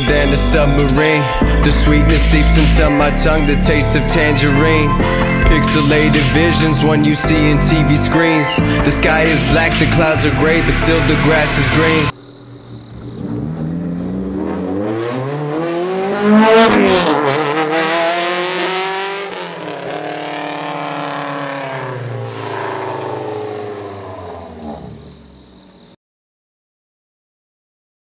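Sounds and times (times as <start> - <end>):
car engines revving hard: 0.0 - 25.9.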